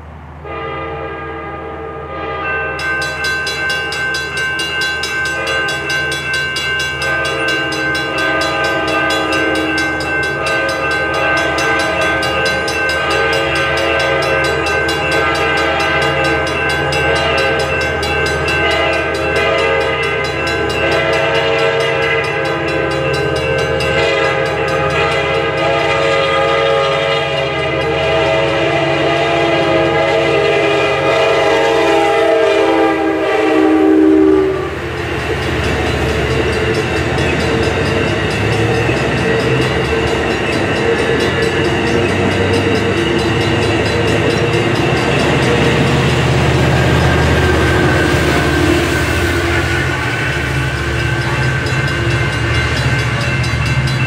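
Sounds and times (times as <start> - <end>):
train horn chord: 0.4 - 2.9, 5.1 - 6.3, 6.9 - 35.0, 36.2 - 53.5
crossing bell ringing: 0.5 - 54.0.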